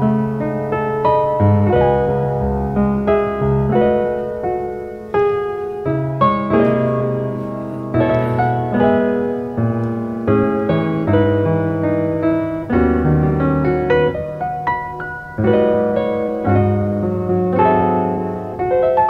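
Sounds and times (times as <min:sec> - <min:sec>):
solo piano chords: 0:00.0 - 0:19.0.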